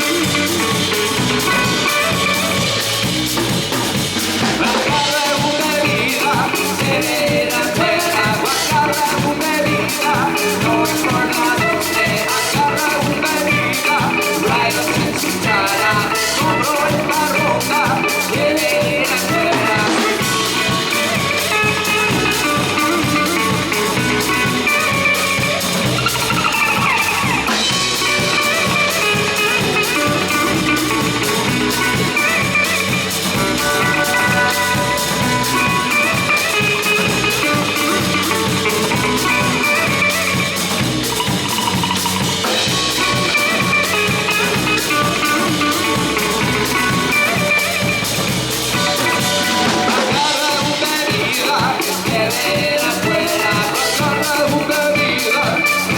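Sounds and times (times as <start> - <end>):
drum kit and percussion beat: 0.0 - 55.9
electric guitar lines: 0.0 - 55.9.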